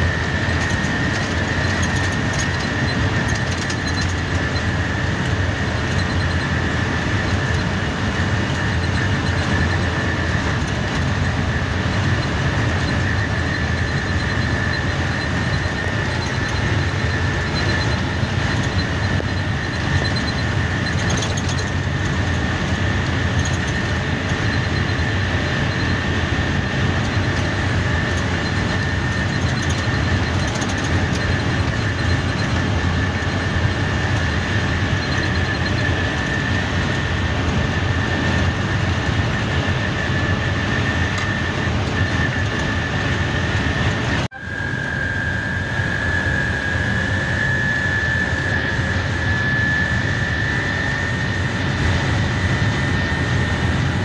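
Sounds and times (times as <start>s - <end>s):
high-pitched whine: 0.0s - 54.0s
truck engine and road drone: 0.0s - 54.0s.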